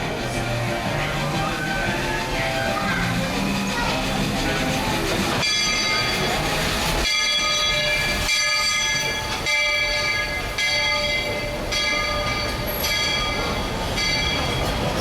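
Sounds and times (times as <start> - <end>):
locomotive bell ringing: 0.0 - 15.0
low rumble of train: 0.0 - 15.0.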